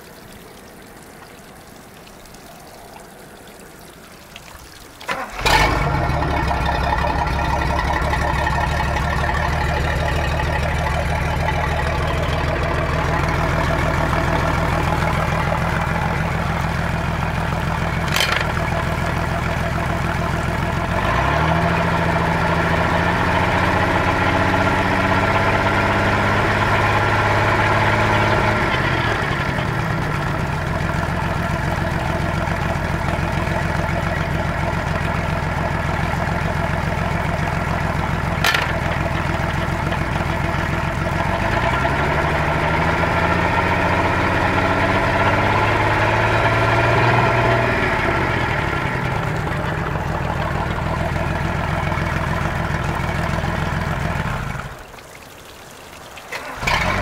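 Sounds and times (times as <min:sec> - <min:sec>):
water spattering: 0:00.0 - 0:57.0
boat engine running: 0:05.1 - 0:54.8, 0:56.3 - 0:57.0.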